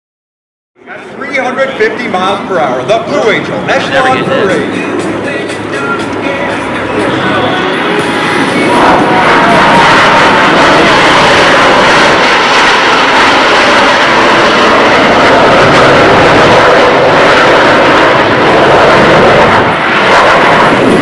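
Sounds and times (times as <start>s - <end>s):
fighter jets flying past: 0.8s - 21.0s.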